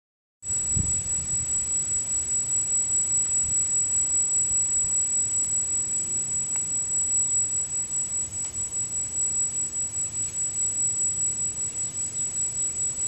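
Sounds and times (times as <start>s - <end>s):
electronic whine from camera gimbal: 0.5s - 13.0s.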